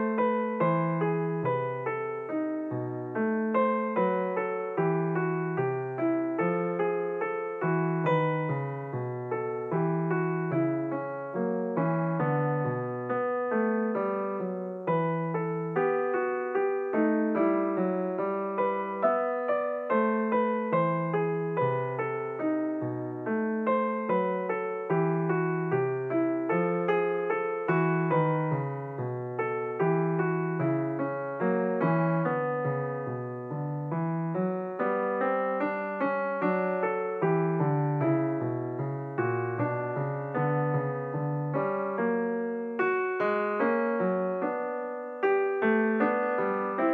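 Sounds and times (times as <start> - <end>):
piano music: 0.0 - 46.9.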